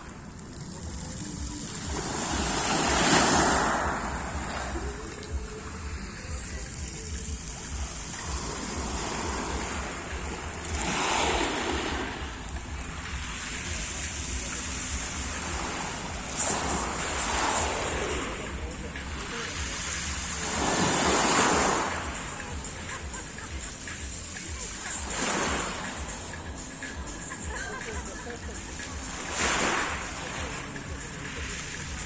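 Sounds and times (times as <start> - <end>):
waves washing onto shore: 0.0 - 32.0.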